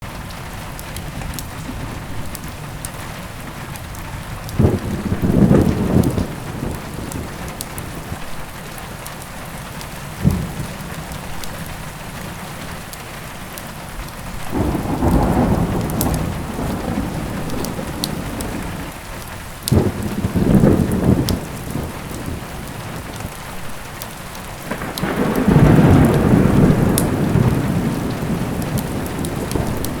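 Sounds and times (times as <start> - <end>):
thunder rumbling: 0.0 - 12.9, 14.2 - 30.0
heavy rain: 0.0 - 30.0
wood fire crackling: 0.5 - 30.0.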